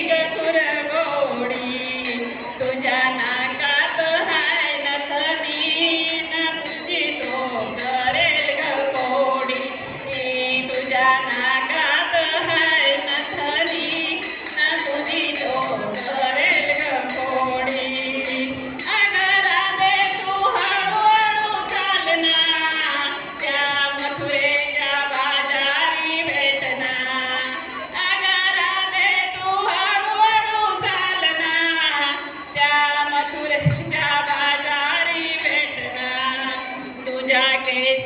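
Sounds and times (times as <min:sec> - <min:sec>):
jingling percussion: 0:00.0 - 0:38.0
woman singing folk song: 0:00.0 - 0:38.0.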